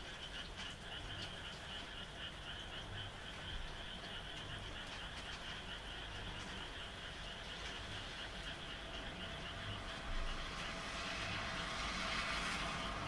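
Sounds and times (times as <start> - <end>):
frogs calling in trills: 0.0 - 13.0.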